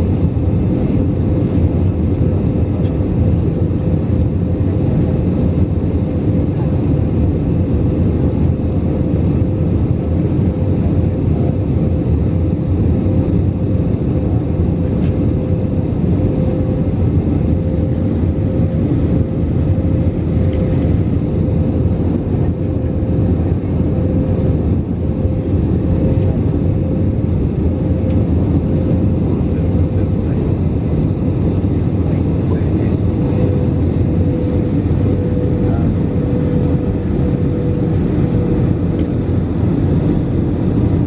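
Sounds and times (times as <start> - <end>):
jet engines roaring: 0.0 - 41.0
mid-pitched hum: 0.0 - 41.0.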